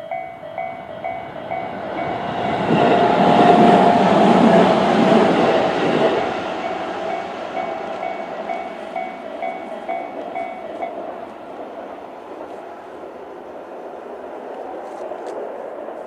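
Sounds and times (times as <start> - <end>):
level crossing warning bells: 0.0 - 13.8
electric train passing: 0.0 - 16.0.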